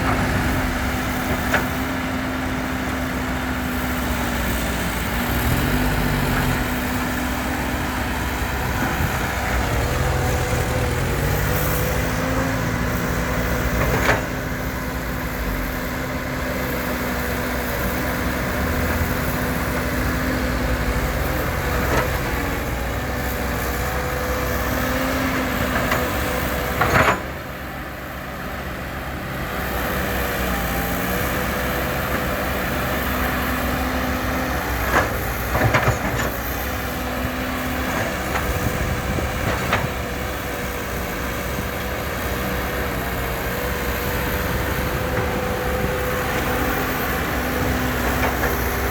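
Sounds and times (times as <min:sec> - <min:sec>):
heavy diesel engine under load: 0:00.0 - 0:48.9.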